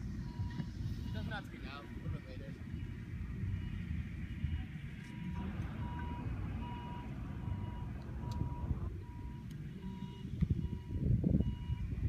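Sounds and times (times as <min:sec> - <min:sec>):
reversing alarm beeping: 0:00.2 - 0:01.5, 0:02.6 - 0:12.0.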